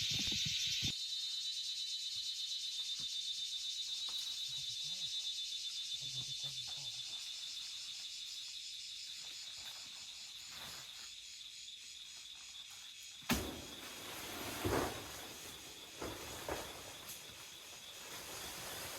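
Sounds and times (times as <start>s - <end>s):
insects trilling: 0.0s - 18.9s.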